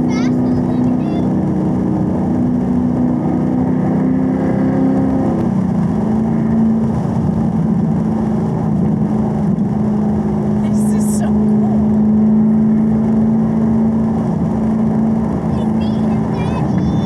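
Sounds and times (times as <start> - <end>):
car engine pulling: 0.0 - 17.0
tyre and road noise: 0.0 - 17.0.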